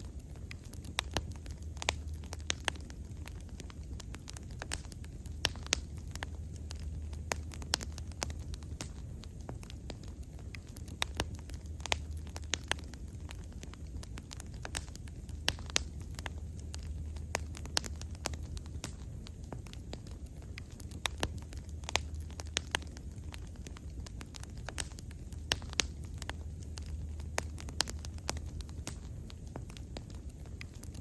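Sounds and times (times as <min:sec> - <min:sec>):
bonfire crackling and popping: 0:00.0 - 0:31.0.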